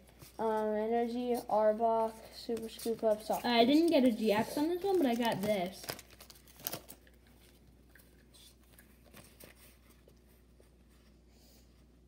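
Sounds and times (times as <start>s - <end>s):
trading cards rustling and clicking: 0.0s - 10.2s.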